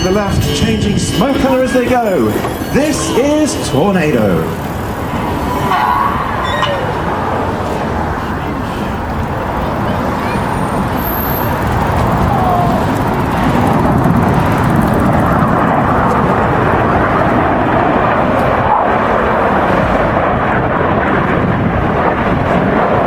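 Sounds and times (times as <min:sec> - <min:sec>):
jets flying past: 0:00.0 - 0:23.0.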